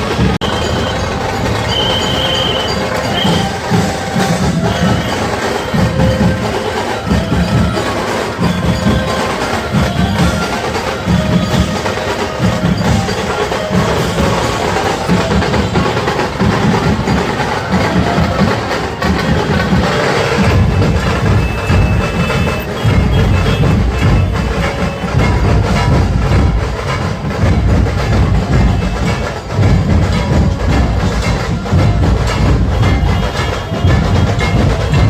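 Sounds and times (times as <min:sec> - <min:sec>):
clattering percussion: 0:00.0 - 0:35.0
drums beating deep thumps: 0:00.0 - 0:35.0.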